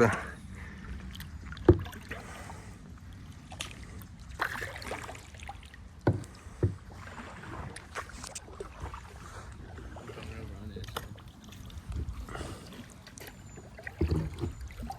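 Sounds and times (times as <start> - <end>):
paddle strokes in water: 0.1 - 14.9.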